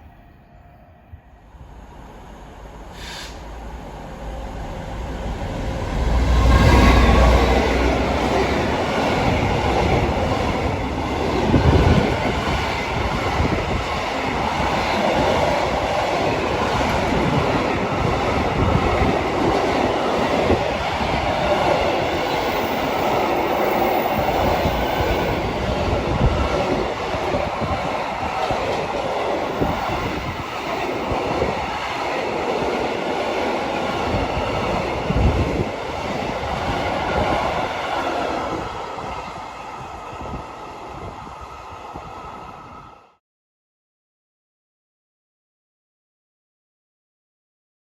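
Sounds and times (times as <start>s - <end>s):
train wheels rumbling on rails: 1.6s - 42.8s.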